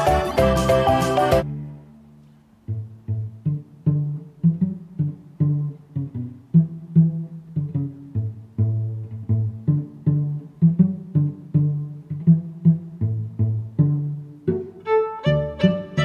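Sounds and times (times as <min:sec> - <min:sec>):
bouncy plucked string tune: 0:00.0 - 0:01.7, 0:02.6 - 0:16.0.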